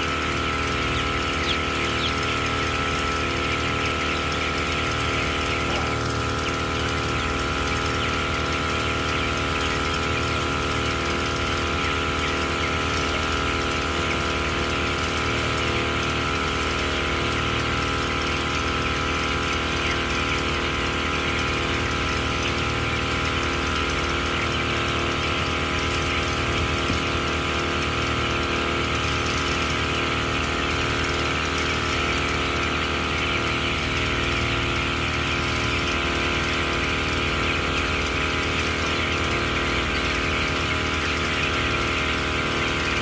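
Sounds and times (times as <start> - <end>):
machinery hum: 0.0 - 43.0.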